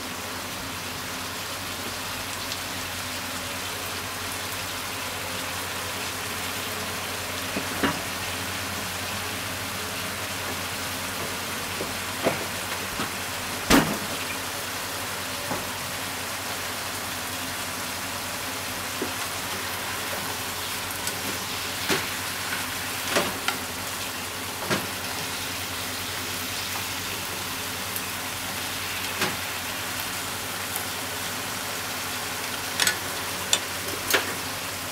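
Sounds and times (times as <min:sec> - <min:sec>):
food sizzling in a frying pan: 0:00.0 - 0:34.9.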